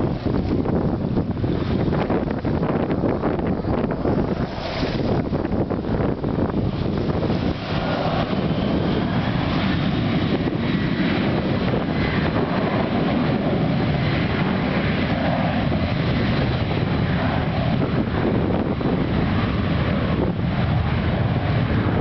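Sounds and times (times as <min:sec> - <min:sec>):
jet engines at takeoff power: 0:00.0 - 0:22.0
wind buffeting microphone: 0:00.0 - 0:22.0.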